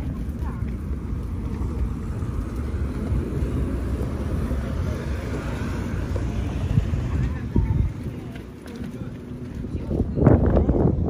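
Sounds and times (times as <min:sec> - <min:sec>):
low rumble of vehicles: 0:00.0 - 0:11.0.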